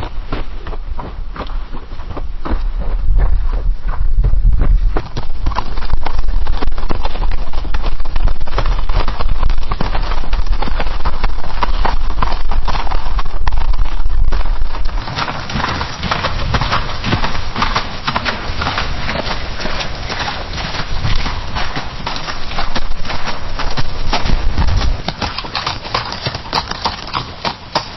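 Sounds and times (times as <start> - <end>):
hoofbeats galloping on dirt: 0.0 - 27.9
sharp hoof clatter: 0.0 - 27.9.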